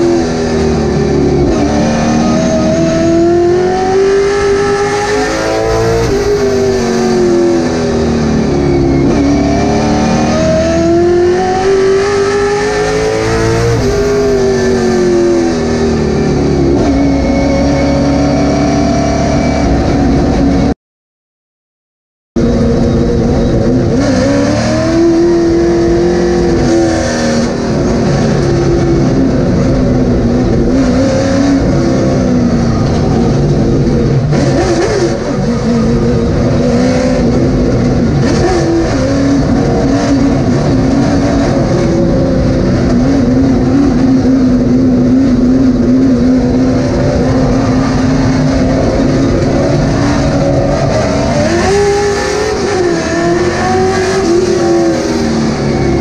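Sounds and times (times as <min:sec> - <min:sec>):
race car engine revving: 0:00.0 - 0:20.7, 0:22.4 - 0:56.0.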